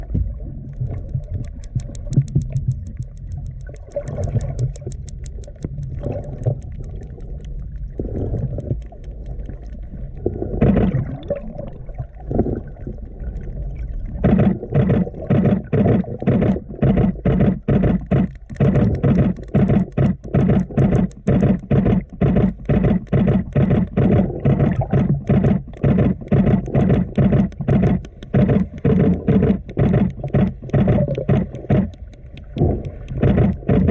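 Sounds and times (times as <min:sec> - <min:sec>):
low water noise: 0:00.0 - 0:33.9
whales clicking underwater: 0:00.0 - 0:33.9.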